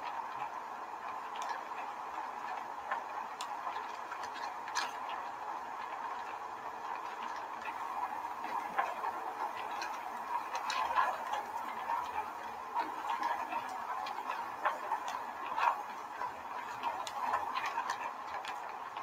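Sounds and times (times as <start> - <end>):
plastic sheet rustling and crackling: 1.3 - 19.0.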